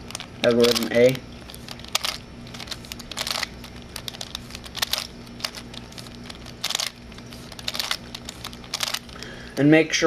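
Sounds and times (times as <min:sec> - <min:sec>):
plastic puzzle clicking and scraping: 0:00.0 - 0:09.2.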